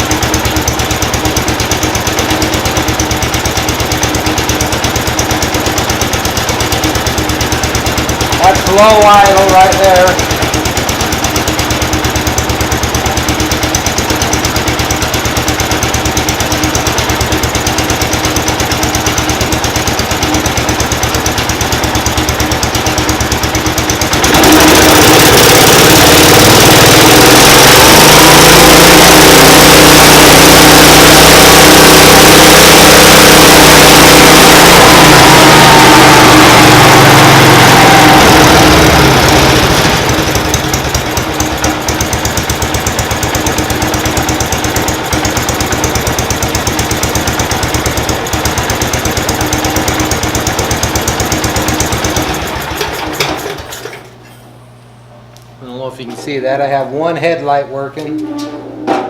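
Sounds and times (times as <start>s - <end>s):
small engine idling and revving: 0.0s - 54.1s.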